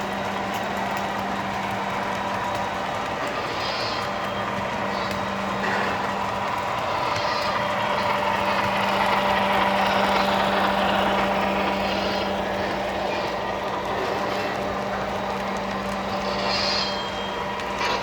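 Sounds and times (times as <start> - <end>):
constant low hum: 0.0 - 18.0
model train rumbling on metal track: 0.0 - 18.0.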